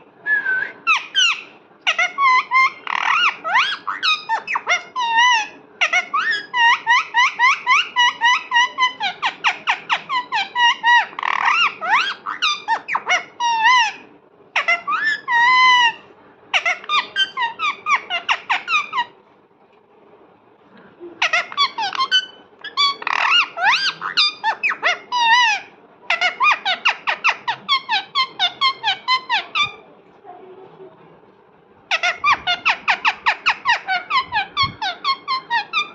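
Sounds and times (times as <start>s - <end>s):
parrot calling: 0.7s - 19.1s, 21.2s - 29.9s, 31.9s - 35.9s.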